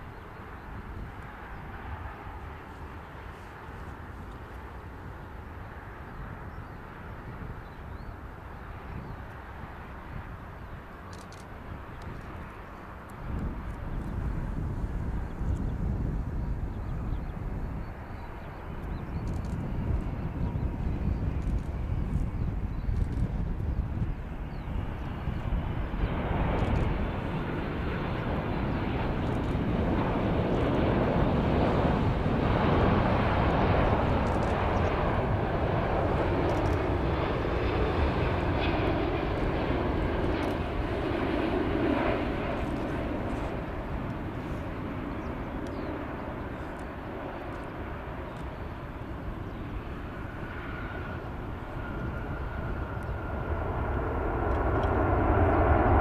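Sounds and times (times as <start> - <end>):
jet airliner rumble: 0.0 - 56.0
high jet whine: 8.1 - 56.0.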